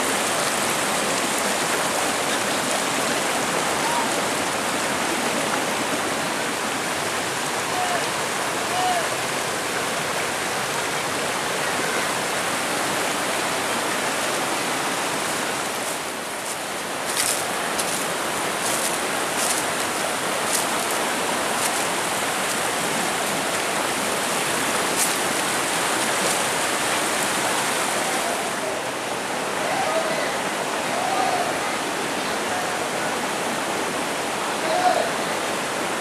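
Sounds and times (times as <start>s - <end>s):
rushing water: 0.0s - 36.0s.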